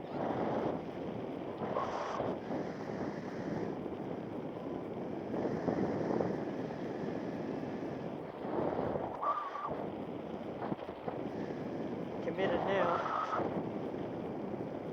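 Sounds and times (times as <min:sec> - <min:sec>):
wind rushing over microphone: 0:00.0 - 0:14.9.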